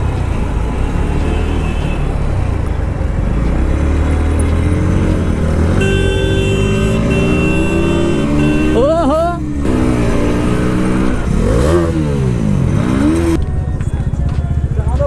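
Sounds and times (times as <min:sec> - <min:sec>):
road and wind noise: 0:00.0 - 0:15.0
motorcycle engine running: 0:02.2 - 0:15.0.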